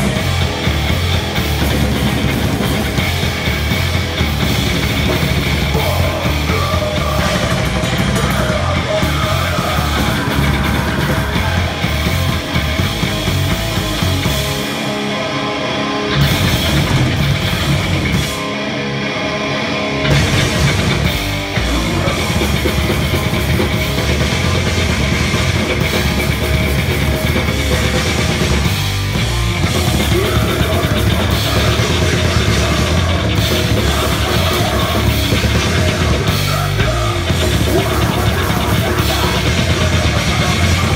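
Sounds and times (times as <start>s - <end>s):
drum kit: 0.0s - 18.6s, 20.0s - 40.9s
distorted electric guitar: 0.0s - 40.9s.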